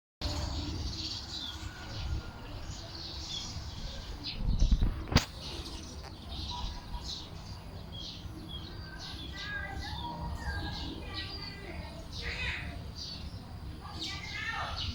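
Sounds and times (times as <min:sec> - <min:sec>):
birds chirping: 0:00.2 - 0:14.9.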